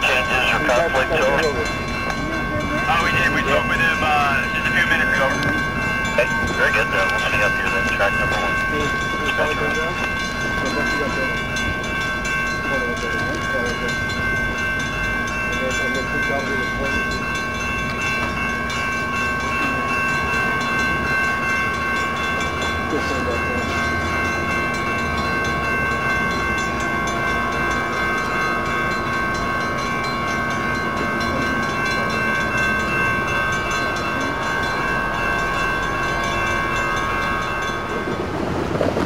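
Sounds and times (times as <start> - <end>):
steady high ringing: 0.0 - 39.0
train low rumble: 0.0 - 39.0.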